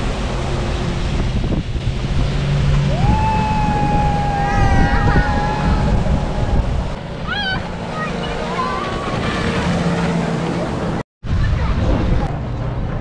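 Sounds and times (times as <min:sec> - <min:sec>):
boat engine and water rumble: 0:00.0 - 0:13.0
wind buffeting microphone: 0:00.0 - 0:13.0.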